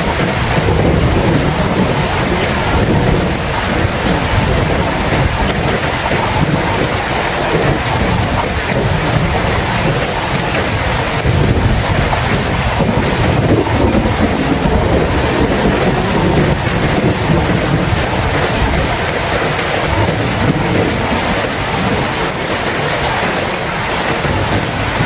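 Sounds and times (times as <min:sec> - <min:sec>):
steady rain: 0:00.0 - 0:25.0
thunder rumble: 0:00.0 - 0:25.0.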